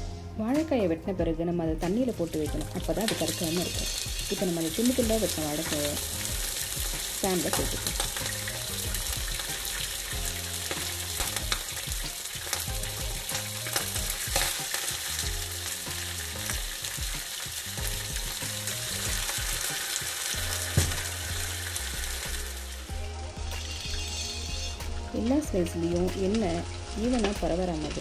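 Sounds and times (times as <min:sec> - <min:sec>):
oil sizzling in frying pan: 0:02.0 - 0:28.0.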